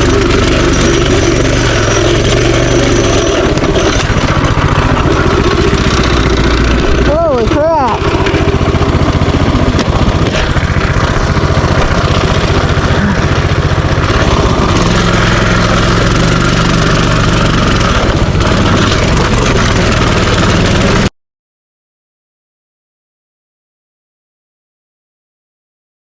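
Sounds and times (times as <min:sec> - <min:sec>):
small engine running: 0:00.0 - 0:21.1.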